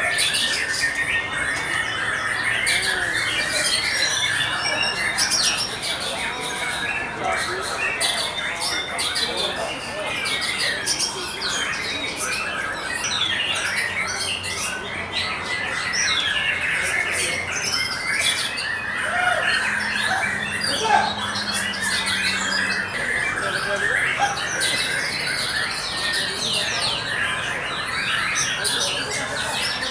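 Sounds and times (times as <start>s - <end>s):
other birds calling: 0.0s - 29.9s.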